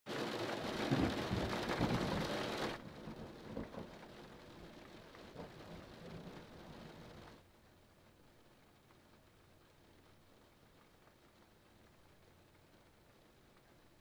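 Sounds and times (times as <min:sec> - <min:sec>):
steady rain: 0:00.1 - 0:14.0.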